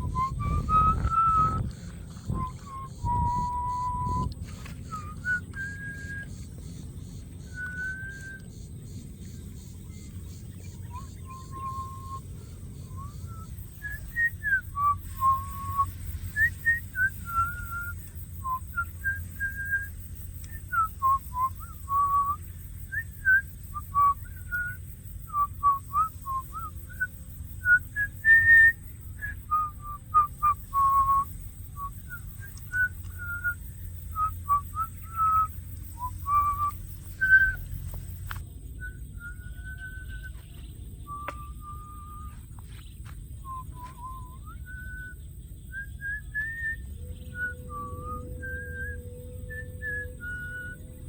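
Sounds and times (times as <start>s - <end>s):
whistled melody: 0.0s - 6.4s, 7.4s - 8.5s, 10.9s - 12.2s, 12.8s - 42.6s, 43.4s - 51.0s
low background hum: 0.0s - 51.0s.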